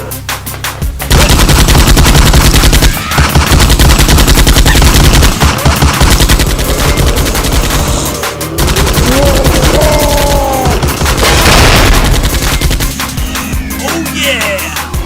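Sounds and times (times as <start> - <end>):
machine-gun fire: 1.1 - 13.2.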